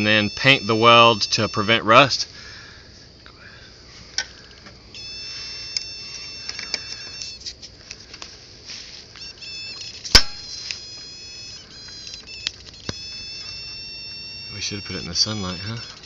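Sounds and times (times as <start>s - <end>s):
high steady whine: 0.0s - 16.0s.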